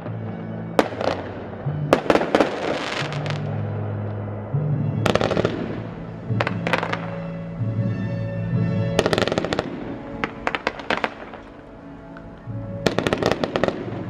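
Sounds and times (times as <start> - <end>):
fireworks bangs: 0.0 - 7.6, 8.9 - 14.0
music playing: 0.0 - 14.0.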